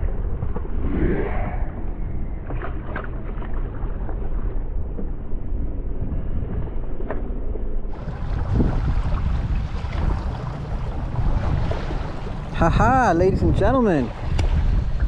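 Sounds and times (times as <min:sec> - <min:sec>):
water noise: 0:00.0 - 0:07.1, 0:07.8 - 0:15.0
muffled wind: 0:00.0 - 0:15.0.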